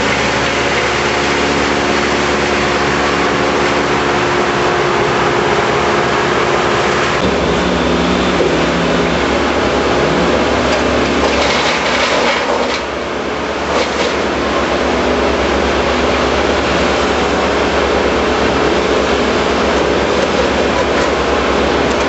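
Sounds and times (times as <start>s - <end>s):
heavy equipment engine running: 0.0s - 22.0s.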